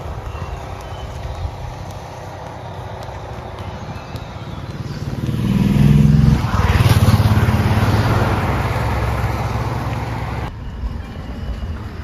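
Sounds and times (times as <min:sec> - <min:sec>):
pulsing engine rumble: 0:00.0 - 0:12.0
vehicles passing on road: 0:00.0 - 0:12.0.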